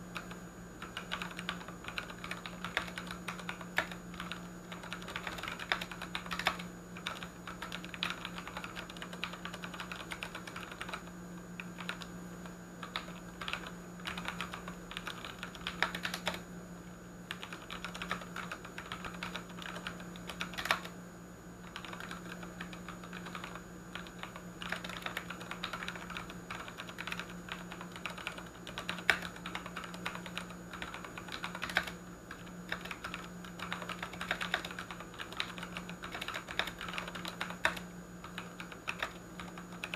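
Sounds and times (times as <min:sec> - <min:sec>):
steady low hum: 0:00.0 - 0:39.9
mechanical keyboard typing: 0:00.2 - 0:12.1, 0:12.8 - 0:16.4, 0:17.3 - 0:20.9, 0:21.6 - 0:39.9.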